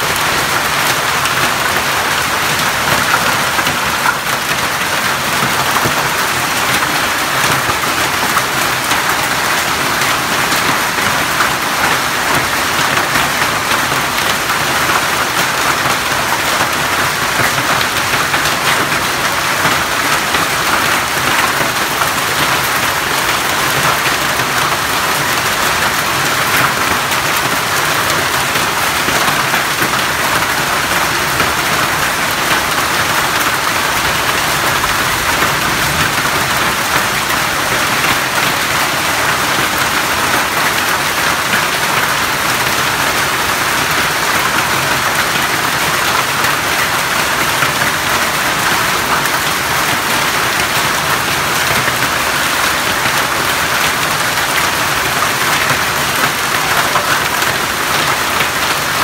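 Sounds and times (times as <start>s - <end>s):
heavy rain on paving: 0.0s - 59.0s
water running off roof: 0.0s - 59.0s.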